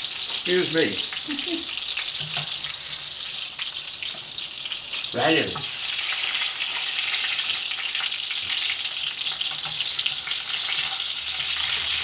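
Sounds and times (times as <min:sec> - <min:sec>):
meatballs sizzling in a pan: 0:00.0 - 0:12.0.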